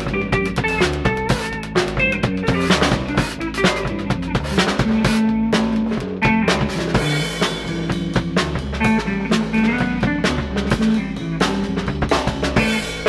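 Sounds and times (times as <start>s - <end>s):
bass line: 0.0s - 13.0s
drum kit played hard: 0.0s - 13.0s.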